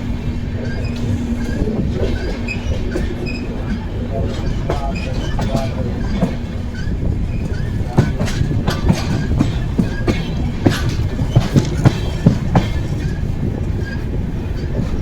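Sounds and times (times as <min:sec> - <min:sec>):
train rumbling: 0:00.0 - 0:15.0
wheels clicking over rail joints: 0:00.0 - 0:15.0.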